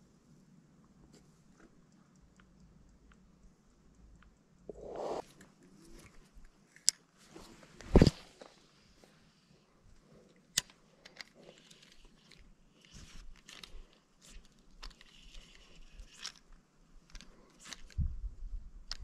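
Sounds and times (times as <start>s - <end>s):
small clicks and rustles: 0.8s - 18.1s.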